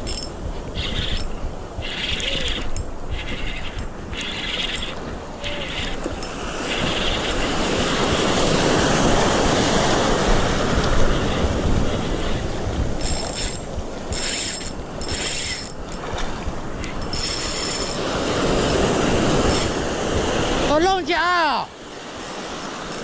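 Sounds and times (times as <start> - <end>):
wind buffeting microphone: 0.0 - 21.0
sea waves washing on shore: 0.0 - 23.0.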